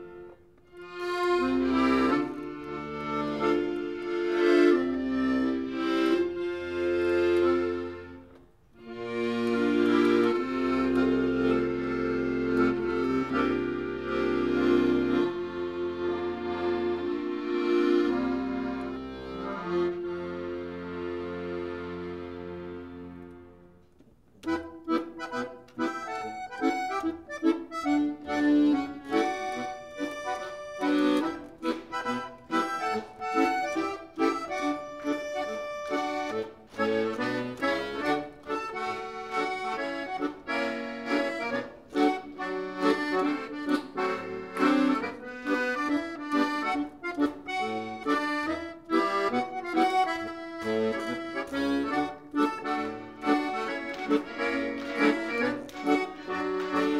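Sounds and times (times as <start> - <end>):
piano accordion playing: 0.0 - 56.9.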